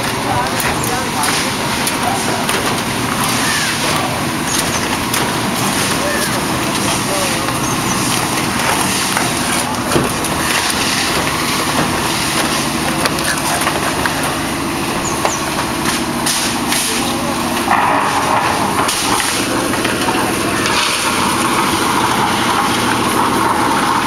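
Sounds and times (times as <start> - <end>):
engine running: 0.0 - 24.0
voices: 0.0 - 24.0.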